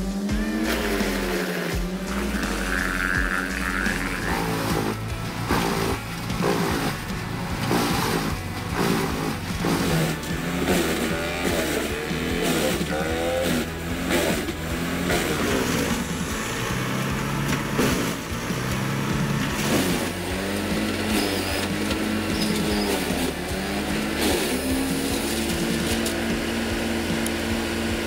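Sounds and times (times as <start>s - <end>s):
wood chipper engine: 0.0s - 28.0s.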